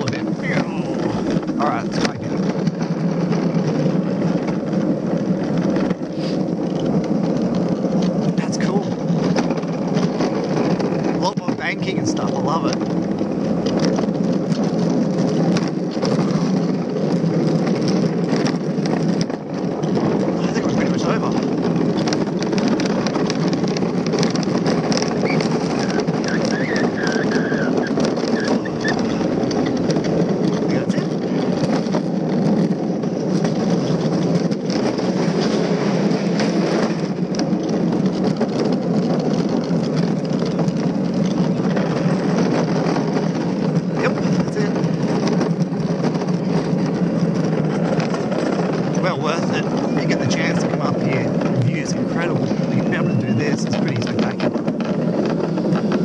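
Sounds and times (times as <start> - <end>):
wheels rumbling on concrete: 0.0 - 56.0.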